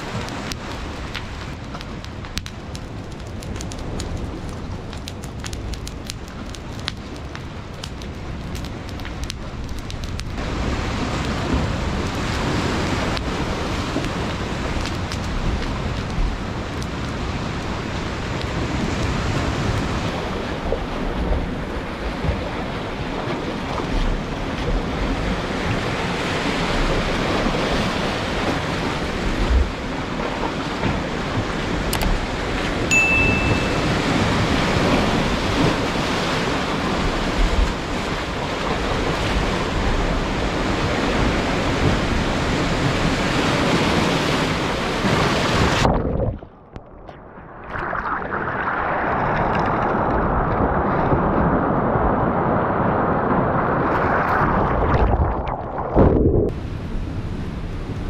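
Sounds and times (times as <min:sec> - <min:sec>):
sea waves washing onto shore: 0:00.0 - 0:58.0
wind gusting against microphone: 0:00.0 - 0:58.0.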